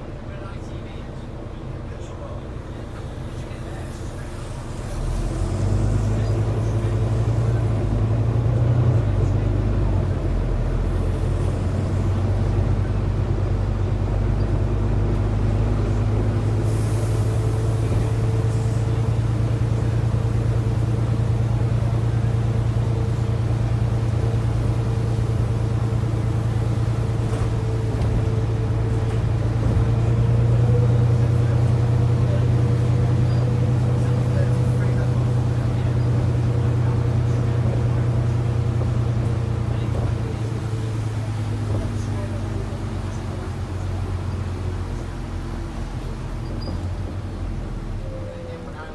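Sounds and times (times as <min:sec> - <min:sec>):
bus diesel engine droning: 0:00.0 - 0:48.9
road noise: 0:00.0 - 0:48.9.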